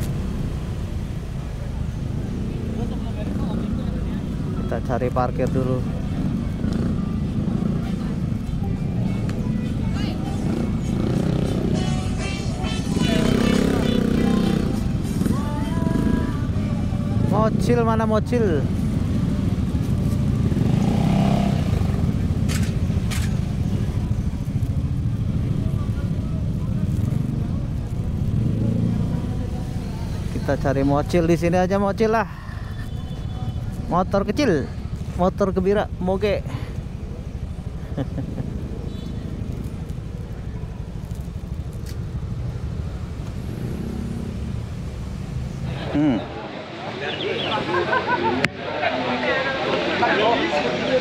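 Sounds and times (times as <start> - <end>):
scooter engine rumbling: 0.0 - 17.6, 18.6 - 49.6.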